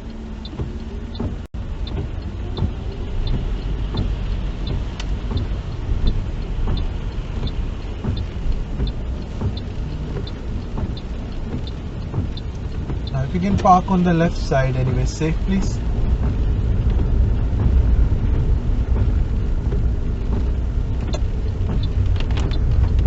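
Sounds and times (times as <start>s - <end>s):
car engine and road rumble: 0.0s - 23.0s
light regular ticking: 0.0s - 23.0s.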